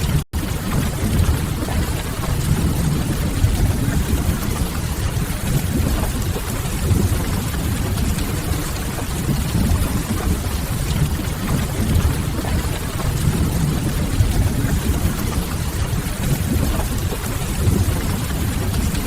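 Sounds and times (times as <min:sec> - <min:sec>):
deep even rumble: 0:00.0 - 0:19.0
steady rain: 0:00.0 - 0:19.0.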